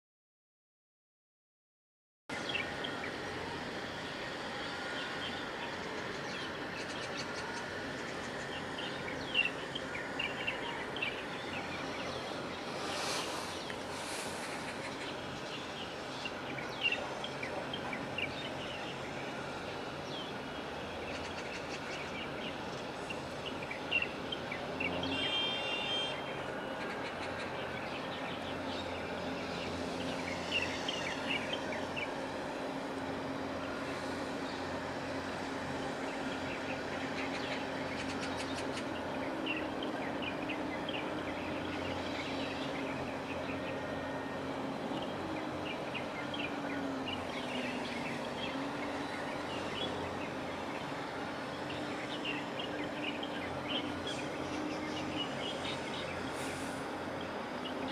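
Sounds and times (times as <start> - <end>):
engine hum: 2.3 - 57.9
small birds chirping: 2.4 - 56.4.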